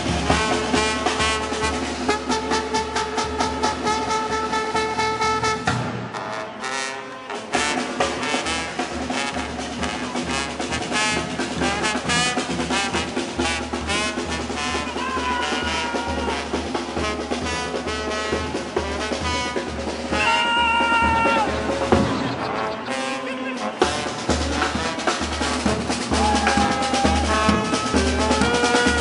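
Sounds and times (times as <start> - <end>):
brass music with steady beat: 0.0 - 29.0.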